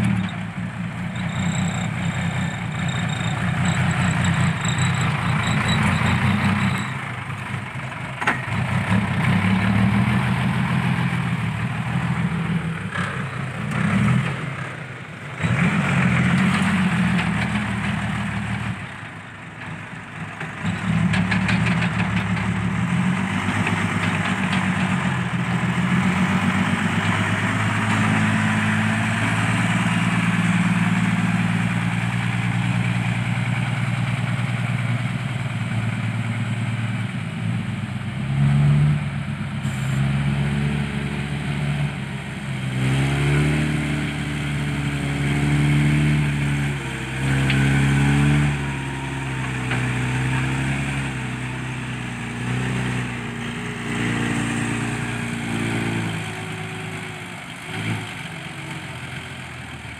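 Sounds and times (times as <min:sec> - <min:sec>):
diesel truck engine revving: 0:00.0 - 0:19.2, 0:20.1 - 0:59.9.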